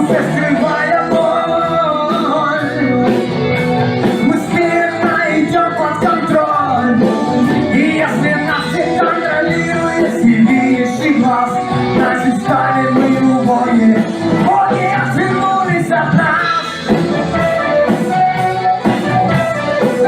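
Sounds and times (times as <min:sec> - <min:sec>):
rock band music: 0:00.0 - 0:20.0.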